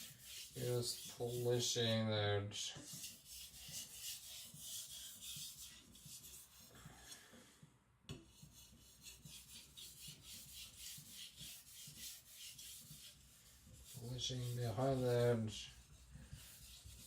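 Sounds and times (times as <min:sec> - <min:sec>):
knife rasping on whetstone: 0:00.0 - 0:01.8, 0:02.8 - 0:06.7, 0:08.3 - 0:17.0.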